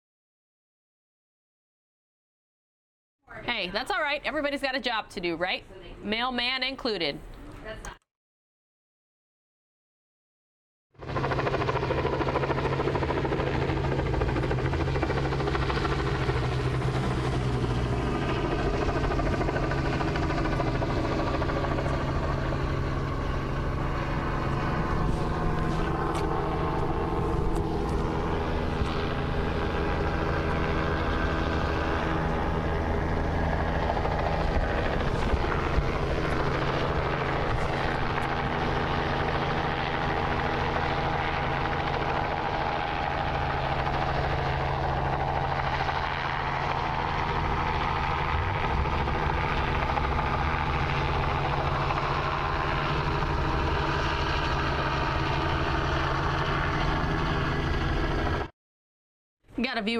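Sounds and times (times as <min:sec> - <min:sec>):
helicopter hovering: 0:03.3 - 0:07.8, 0:11.0 - 0:58.5.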